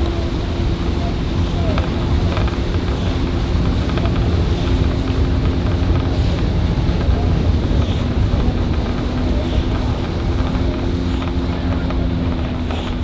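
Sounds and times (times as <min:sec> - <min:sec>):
boat engine droning: 0:00.0 - 0:13.0
wind buffeting microphone: 0:00.0 - 0:13.0.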